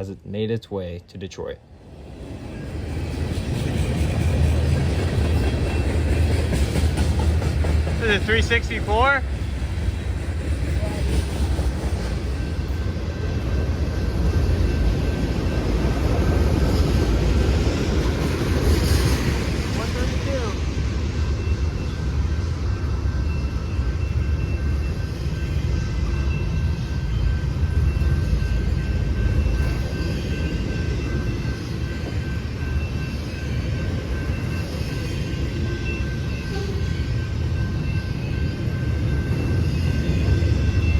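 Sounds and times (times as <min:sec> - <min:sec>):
train cars rolling on rails: 0:01.7 - 0:40.9.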